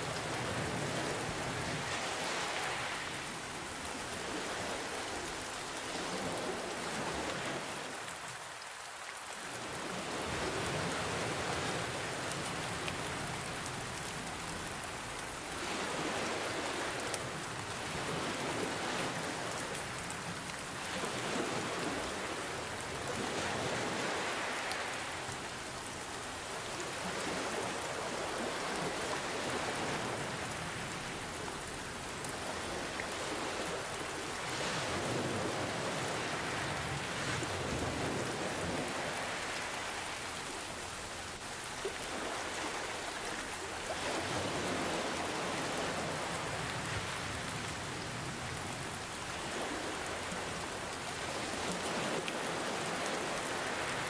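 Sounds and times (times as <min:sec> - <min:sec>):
ocean waves washing in: 0:00.0 - 0:08.3, 0:09.5 - 0:54.0
rainfall: 0:00.0 - 0:54.0.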